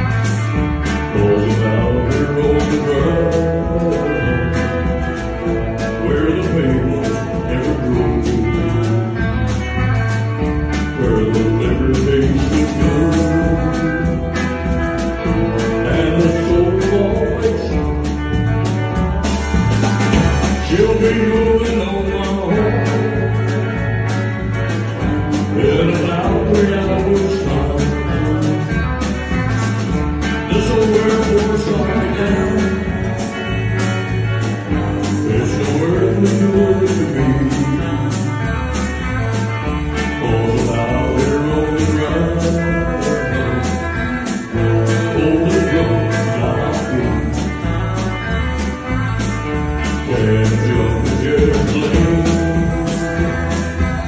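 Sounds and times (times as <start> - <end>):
man singing into a microphone: 0.0 - 9.6, 10.7 - 18.0, 20.4 - 33.8, 34.4 - 38.6, 39.9 - 47.9, 49.8 - 54.0
bass guitar: 0.0 - 54.0
electric guitar: 0.0 - 54.0
steady drum beat: 0.0 - 54.0.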